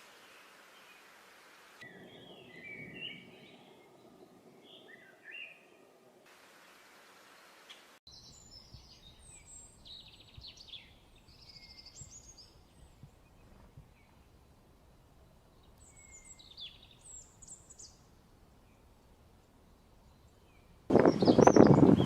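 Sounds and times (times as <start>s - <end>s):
small birds singing: 1.8s - 6.0s, 7.7s - 22.0s.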